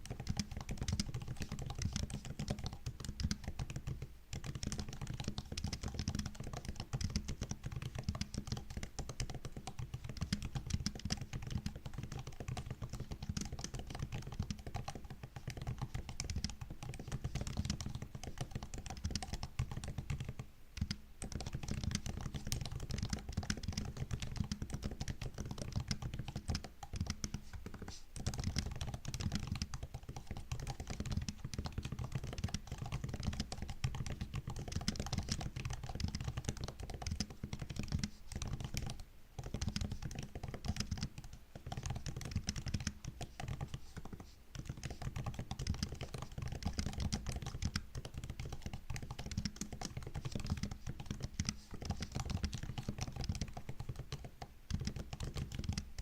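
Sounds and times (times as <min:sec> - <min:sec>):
laptop keyboard typing: 0:00.0 - 0:56.0.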